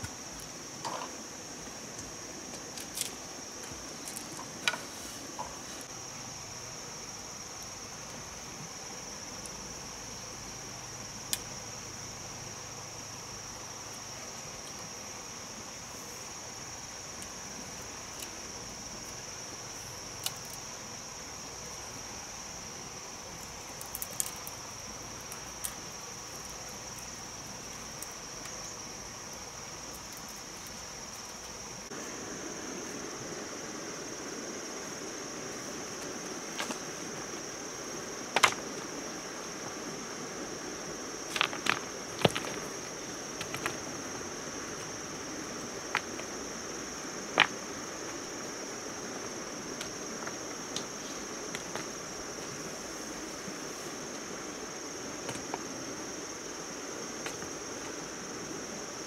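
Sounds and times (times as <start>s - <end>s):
insect chorus drone: 0.0s - 59.0s
soft hiss: 0.0s - 59.0s.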